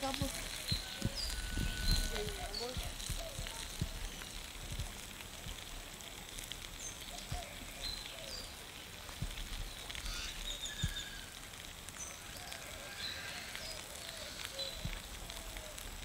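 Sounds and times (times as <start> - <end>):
oil sizzling in a pan: 0.0 - 16.0.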